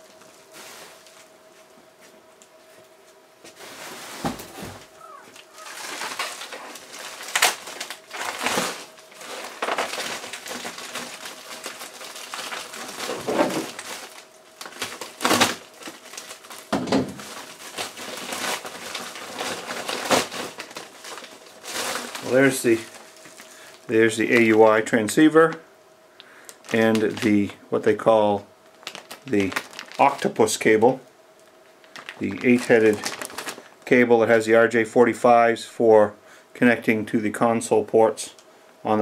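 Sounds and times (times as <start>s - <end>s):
plastic bag rustling and crinkling: 0.0s - 1.6s, 3.5s - 25.7s, 26.4s - 31.0s, 31.6s - 34.4s.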